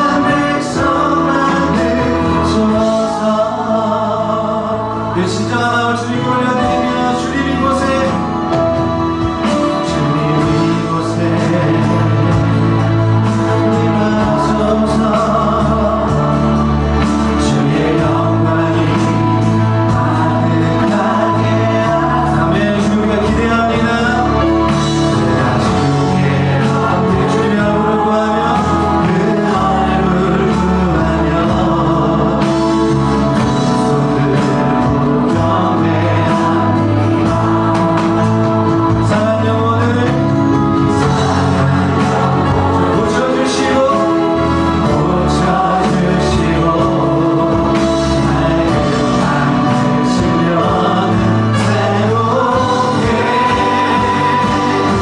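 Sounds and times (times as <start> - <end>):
band playing worship song: 0.0 - 55.0
voices singing together: 0.0 - 55.0.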